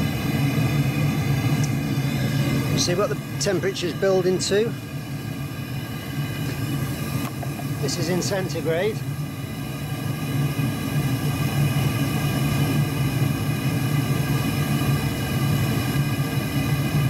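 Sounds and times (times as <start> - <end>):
gas burner humming: 0.0 - 17.0.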